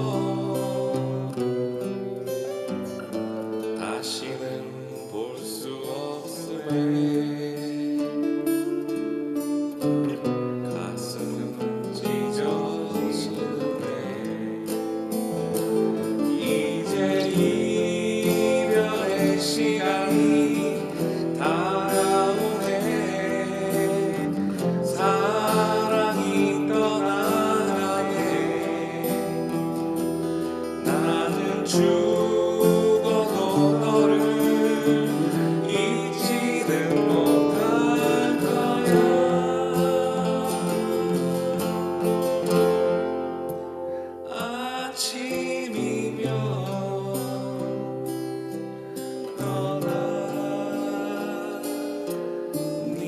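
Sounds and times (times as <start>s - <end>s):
man singing: 0.0s - 2.7s, 3.6s - 9.5s, 10.1s - 43.1s, 44.2s - 53.0s
acoustic guitar: 0.0s - 53.0s.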